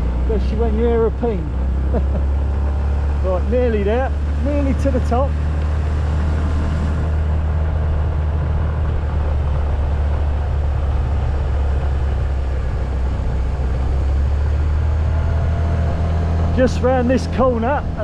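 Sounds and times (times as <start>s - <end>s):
moped engine running: 0.0s - 18.0s.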